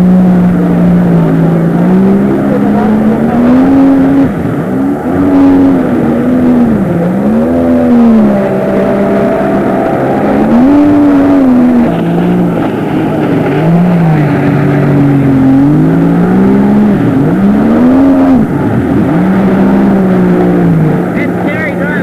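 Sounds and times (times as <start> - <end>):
jet ski engine revving: 0.0 - 22.0.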